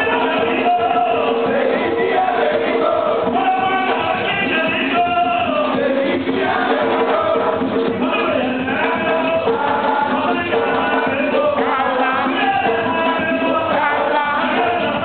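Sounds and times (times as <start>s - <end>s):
hand drums: 0.0s - 15.0s
men singing together: 0.0s - 15.0s.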